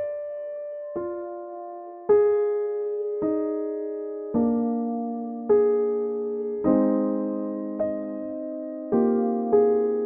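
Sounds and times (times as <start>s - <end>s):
piano chords ringing: 0.0s - 10.0s.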